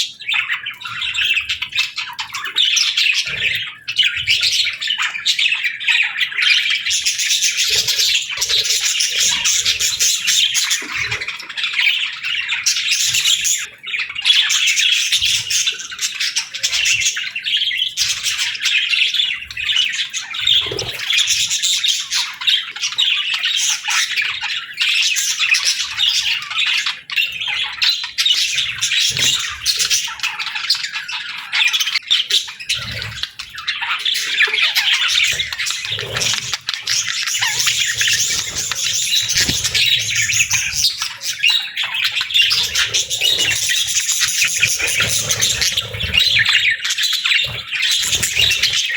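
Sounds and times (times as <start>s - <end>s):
budgerigars chattering: 0.0s - 48.9s.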